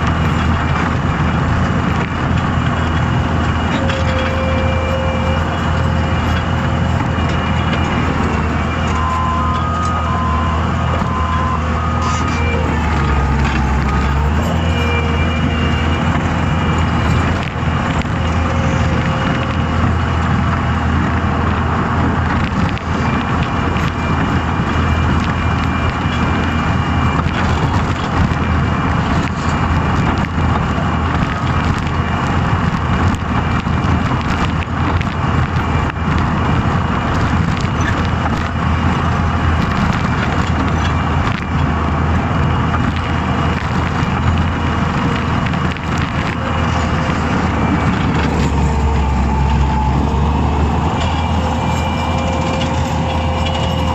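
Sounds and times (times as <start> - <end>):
loader engine droning: 0.0 - 53.9.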